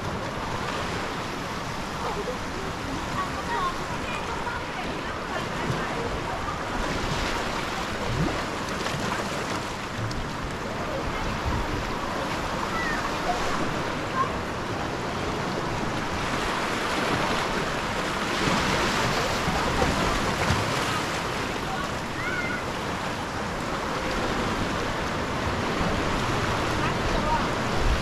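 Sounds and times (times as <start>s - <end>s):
ocean surf rushing: 0.0s - 28.0s.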